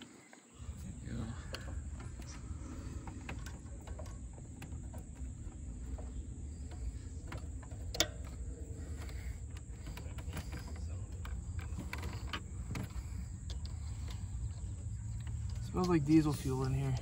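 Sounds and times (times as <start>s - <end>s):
low steady rumble: 0.6s - 17.0s.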